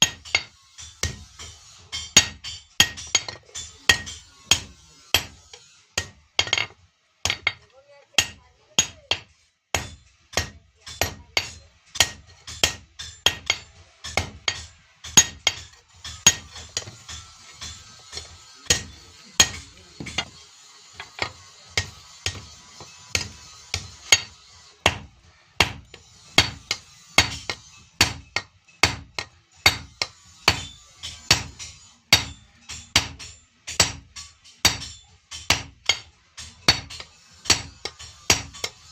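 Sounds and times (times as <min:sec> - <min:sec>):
hammer striking iron on anvil: 0:00.0 - 0:38.9.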